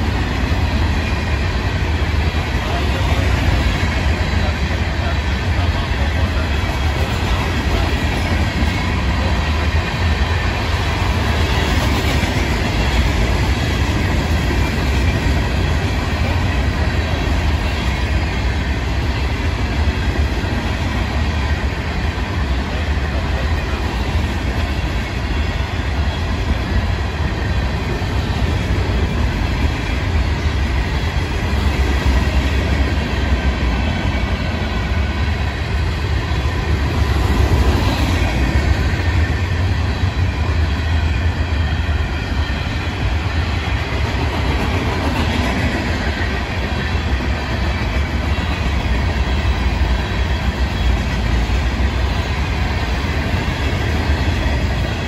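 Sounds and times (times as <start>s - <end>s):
freight train wheels rumbling on rail: 0.0s - 55.0s.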